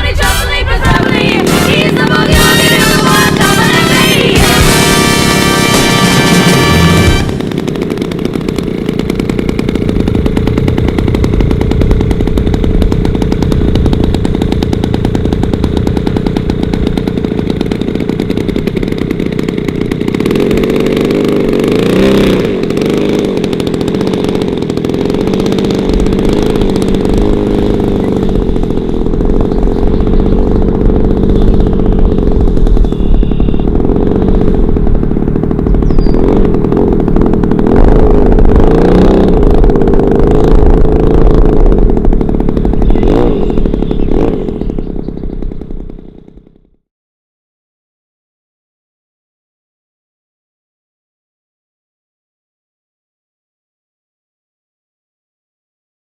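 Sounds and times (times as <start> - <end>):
model plane engine running: 0.0 - 46.8.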